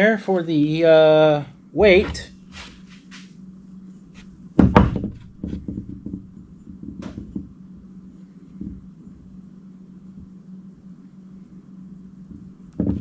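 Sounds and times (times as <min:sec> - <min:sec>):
low hum: 0:00.3 - 0:13.0.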